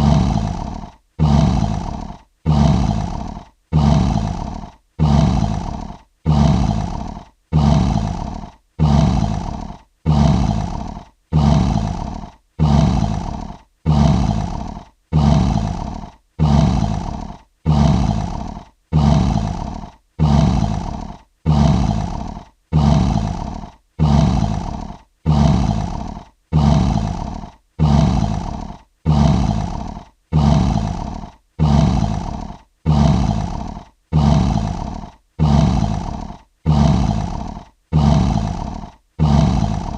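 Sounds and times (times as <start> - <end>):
lion roar: 0.0 - 39.9.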